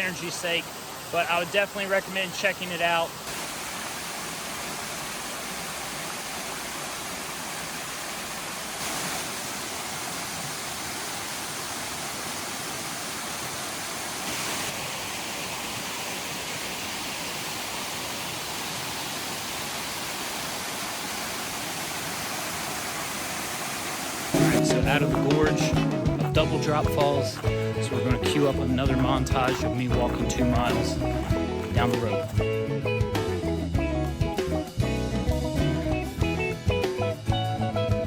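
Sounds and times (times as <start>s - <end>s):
waterfall rushing: 0.0s - 32.4s.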